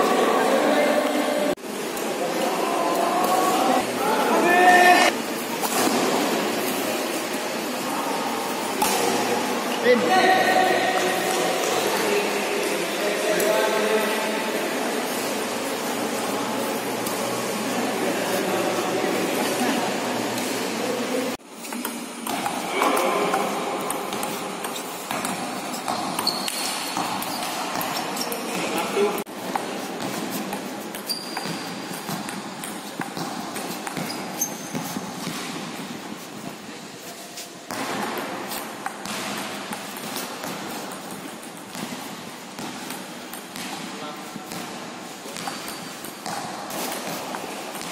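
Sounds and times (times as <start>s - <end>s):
sports hall noise: 0.0s - 47.9s
steady background noise: 0.0s - 47.9s.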